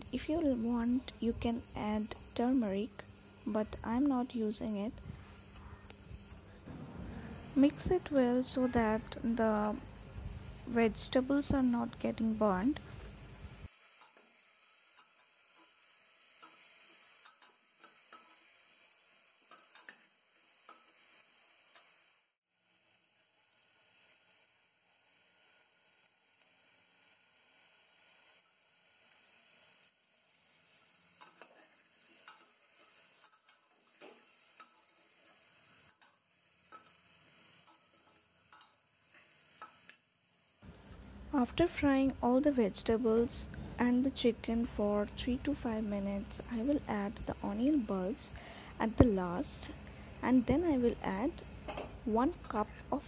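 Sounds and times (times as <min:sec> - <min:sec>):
food frying hiss: 0:00.0 - 0:53.0.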